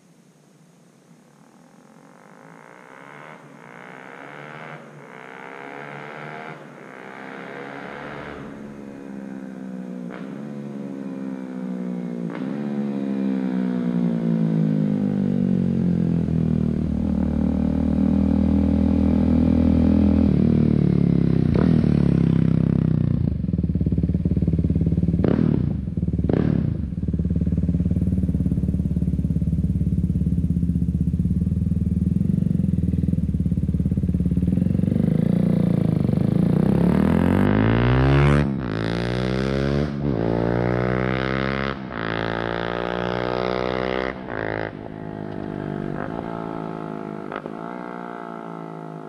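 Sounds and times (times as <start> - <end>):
motorcycle engine: 1.8 - 49.0.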